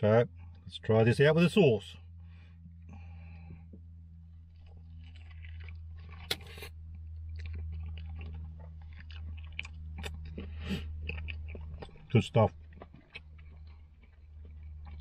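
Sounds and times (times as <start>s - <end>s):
steady low hum: 0.0s - 15.0s
man chewing food: 2.1s - 15.0s.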